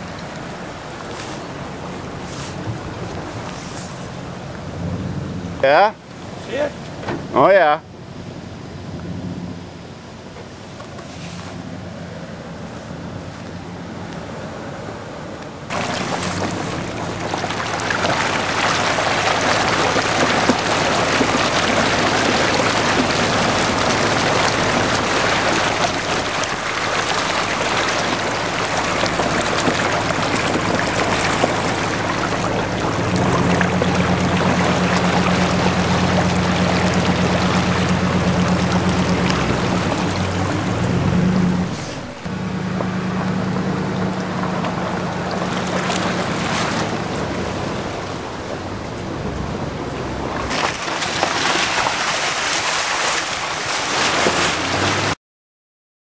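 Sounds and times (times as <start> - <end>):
water rushing and splashing: 0.0 - 7.7, 15.6 - 55.2
truck engine humming: 0.0 - 8.8, 11.6 - 53.9.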